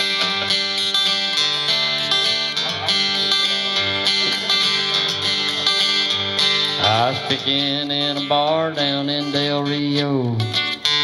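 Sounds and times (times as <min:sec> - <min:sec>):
acoustic guitars playing: 0:00.0 - 0:11.0.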